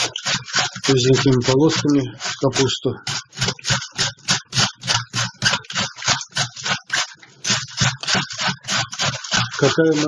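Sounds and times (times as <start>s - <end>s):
cabbage shredding rasps: 0.0s - 10.0s.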